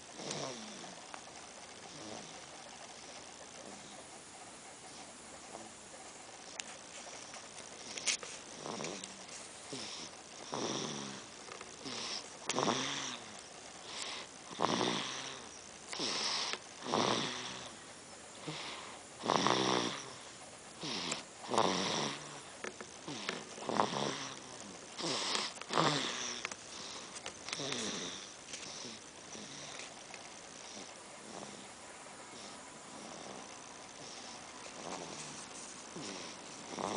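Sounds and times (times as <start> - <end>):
baby snoring: 0.1 - 1.1, 1.8 - 4.0, 7.9 - 17.8, 18.4 - 30.0, 30.6 - 36.9.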